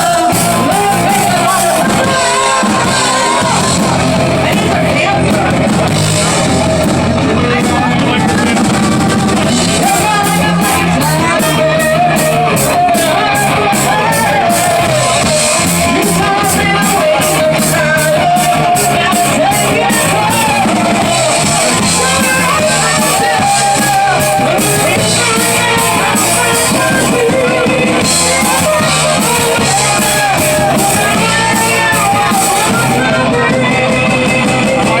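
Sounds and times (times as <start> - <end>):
drums with cymbal beat: 0.0 - 35.0
electric guitar: 0.0 - 35.0
person singing: 0.0 - 35.0.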